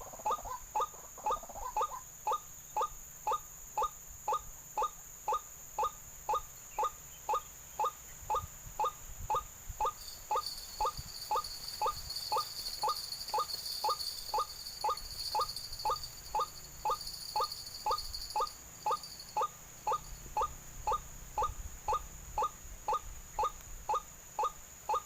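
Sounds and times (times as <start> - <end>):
insects hissing: 0.0 - 25.0.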